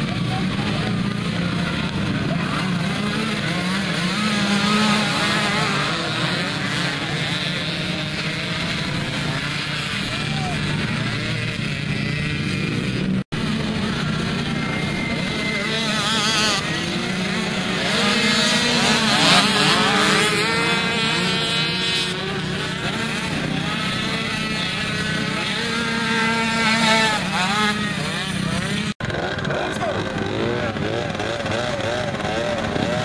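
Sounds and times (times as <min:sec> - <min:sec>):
mini quad engines revving: 0:00.0 - 0:33.0.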